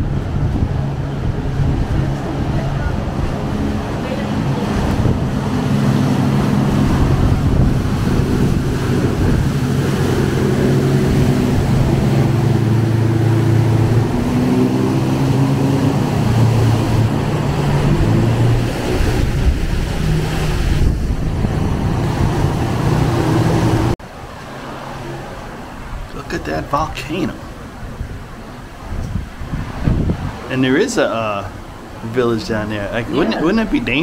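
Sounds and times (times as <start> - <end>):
rough wind noise: 0.0 - 24.1, 27.4 - 34.0
boat engines running: 0.0 - 34.0.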